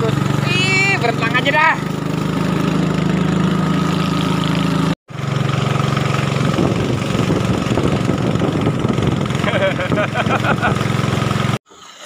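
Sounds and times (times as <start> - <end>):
outboard engine humming: 0.0 - 11.6
water rushing along hull: 0.0 - 12.0.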